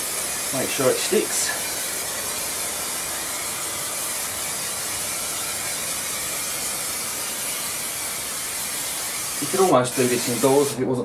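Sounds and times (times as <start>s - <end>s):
aerosol can spraying: 0.0s - 10.8s.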